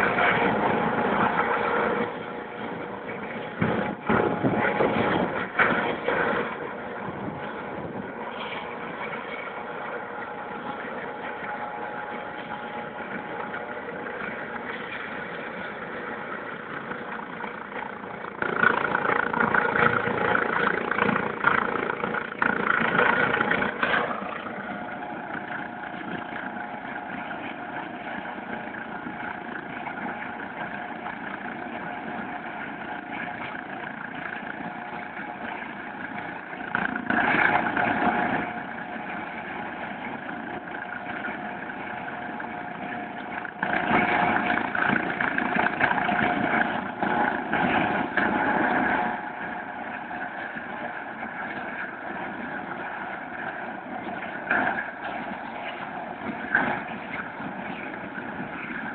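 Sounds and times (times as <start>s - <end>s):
helicopter turbine whine: 0.0s - 58.9s.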